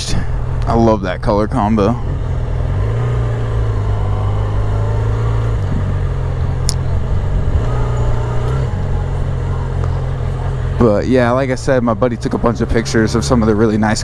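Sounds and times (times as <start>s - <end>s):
motorcycle engine at low revs: 0.0s - 14.0s.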